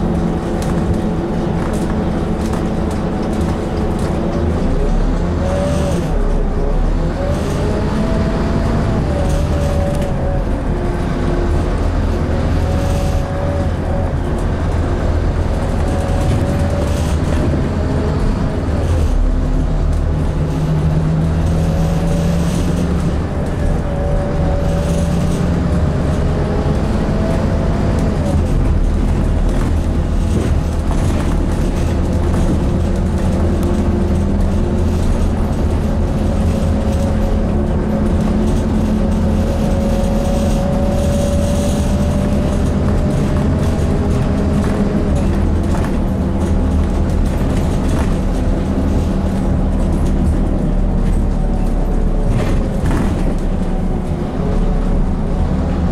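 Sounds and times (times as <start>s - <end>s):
bus diesel engine drone: 0.0s - 55.9s
engine whine: 0.0s - 55.9s.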